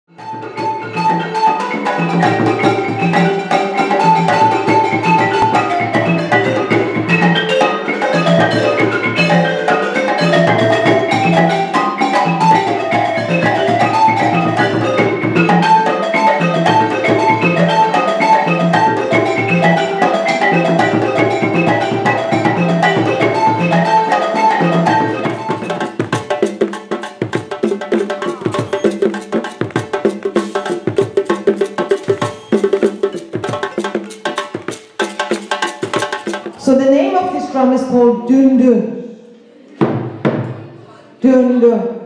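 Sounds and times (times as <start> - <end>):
wooden xylophone melody: 0.1 - 37.2
hand drums: 0.1 - 37.9, 39.8 - 40.7.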